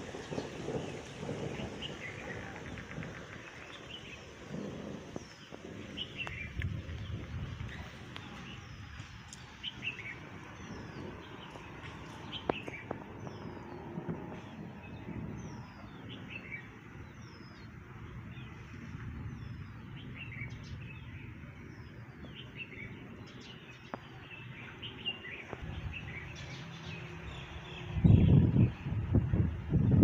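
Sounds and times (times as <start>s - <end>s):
birds chirping: 0.0s - 29.2s
low outdoor rumble: 0.0s - 30.0s.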